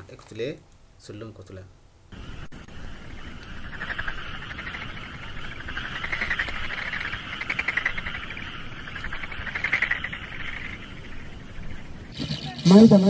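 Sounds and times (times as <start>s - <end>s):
animals calling in rapid pulsing trills: 2.1s - 13.0s.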